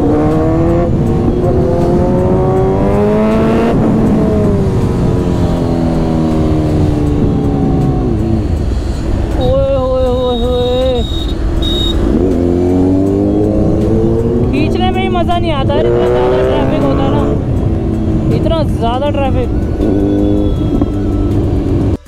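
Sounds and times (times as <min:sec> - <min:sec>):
motorcycle engine revving: 0:00.0 - 0:09.6, 0:10.6 - 0:22.0.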